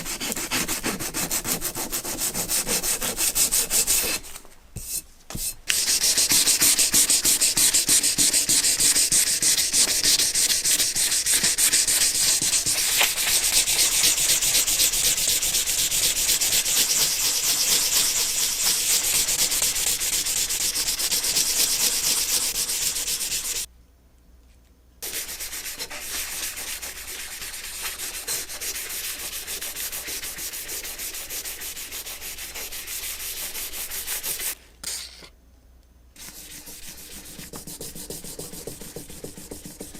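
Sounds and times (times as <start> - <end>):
sanding rasp: 0.0 - 4.3, 5.7 - 23.7, 25.0 - 34.6, 36.2 - 39.9.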